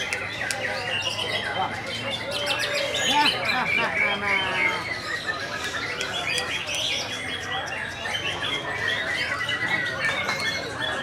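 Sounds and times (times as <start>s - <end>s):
songbirds chirping and trilling: 0.0s - 11.0s.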